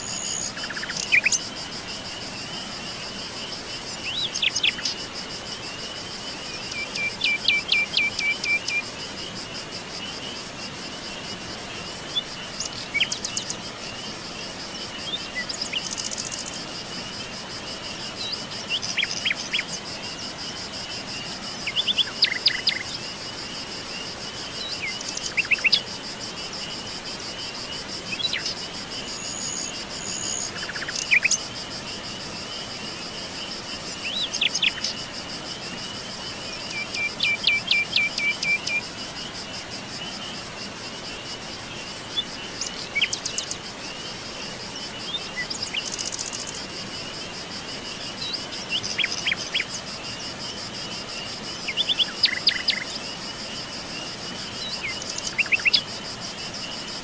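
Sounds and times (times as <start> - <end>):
pulsing insect trill: 0.0 - 57.0.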